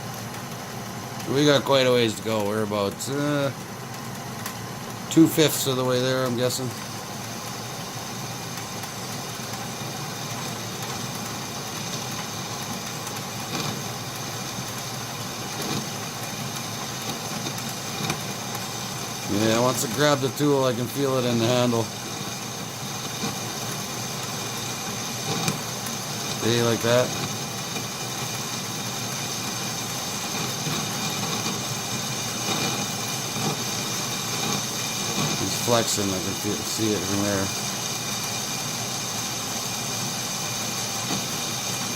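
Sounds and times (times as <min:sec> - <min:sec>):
metal lathe cutting: 0:01.2 - 0:04.1, 0:04.7 - 0:41.9.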